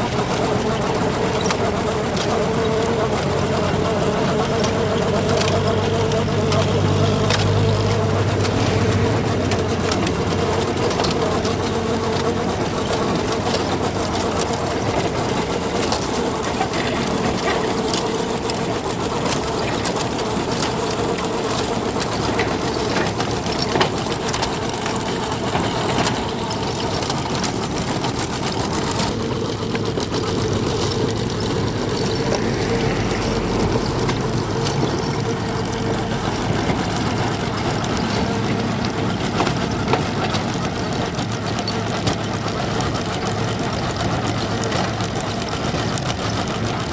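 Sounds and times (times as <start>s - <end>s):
heavy machinery engine running: 0.0s - 46.9s.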